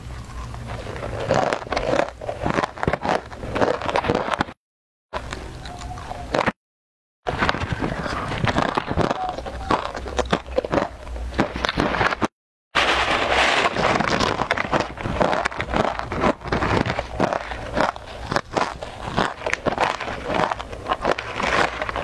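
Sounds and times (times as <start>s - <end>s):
crunching crispy snacks: 0.0s - 4.6s, 7.3s - 22.0s
snack bag crinkling: 0.0s - 4.6s, 7.3s - 22.0s.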